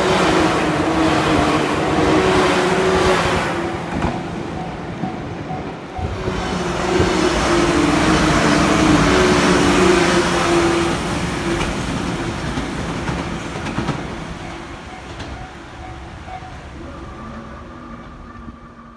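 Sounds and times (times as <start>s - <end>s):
electric train passing on rails: 0.0s - 18.9s.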